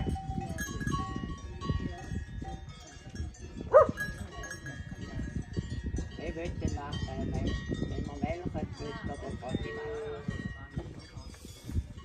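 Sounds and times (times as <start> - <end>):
livestock bells clinking: 0.0 - 12.0.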